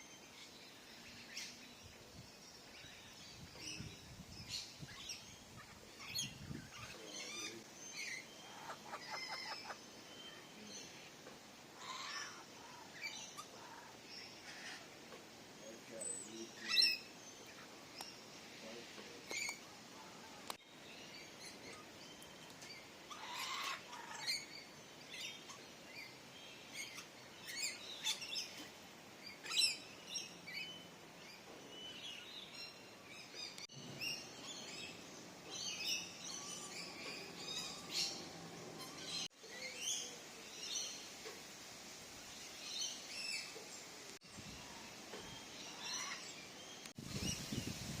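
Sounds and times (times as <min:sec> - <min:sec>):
birds chirping and calling: 0:00.3 - 0:41.2, 0:42.6 - 0:47.9.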